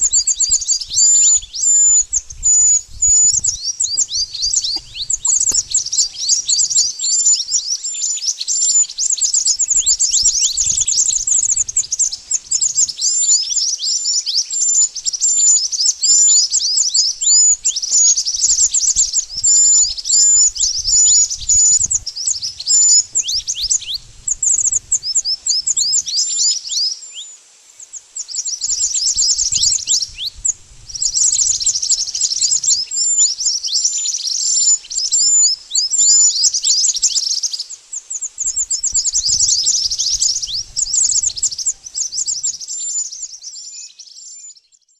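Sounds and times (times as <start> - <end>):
birds chirping and twittering: 0.0 - 44.9.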